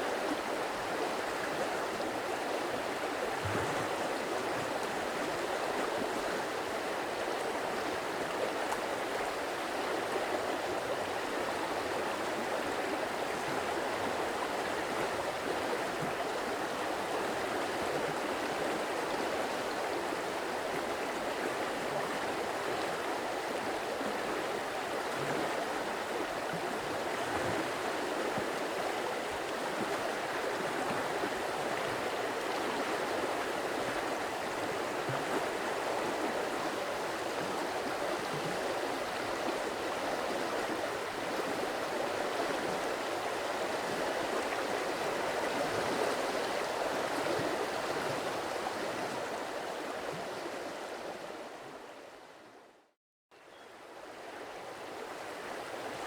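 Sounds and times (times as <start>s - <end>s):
stream water flowing: 0.0s - 52.6s, 53.4s - 56.0s.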